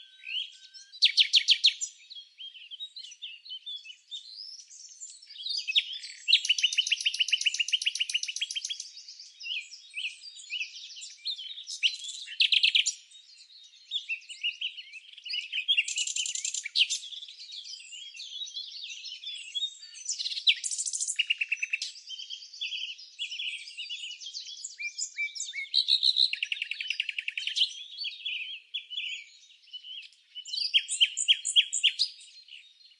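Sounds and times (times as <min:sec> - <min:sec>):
songbirds singing and chirping: 0:00.0 - 0:32.9.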